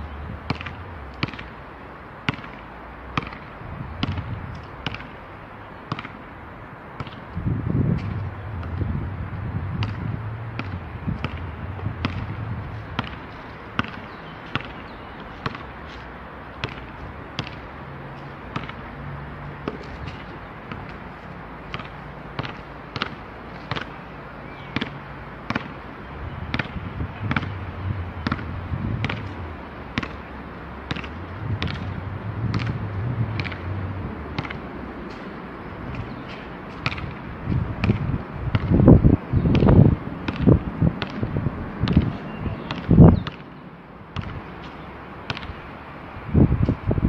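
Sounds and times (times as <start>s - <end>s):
basketball bouncing on asphalt: 0.1s - 1.6s, 2.2s - 5.2s, 5.8s - 6.3s, 6.9s - 45.6s.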